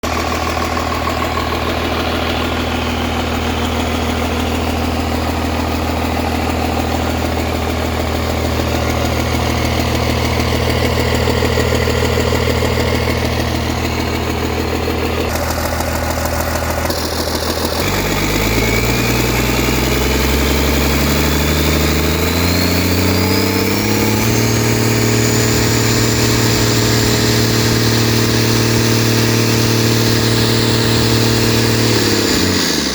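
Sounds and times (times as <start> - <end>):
diesel engine idling and revving: 0.0 - 32.9
high whine: 0.1 - 32.5.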